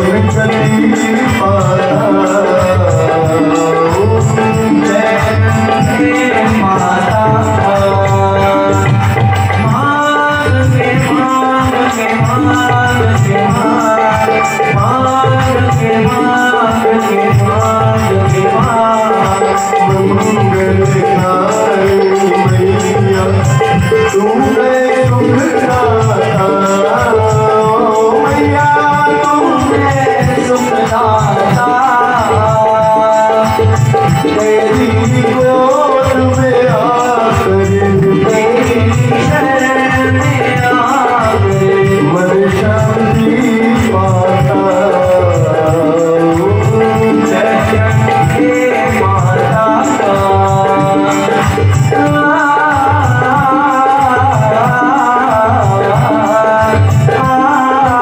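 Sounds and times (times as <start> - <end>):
jingling percussion: 0.0 - 58.0
person singing a hymn: 0.0 - 58.0
steady drum beat: 0.0 - 58.0.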